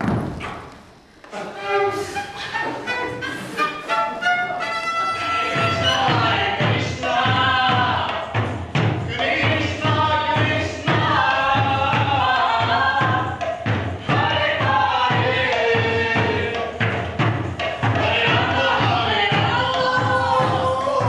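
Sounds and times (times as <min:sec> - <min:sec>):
voices singing: 0:01.3 - 0:21.0.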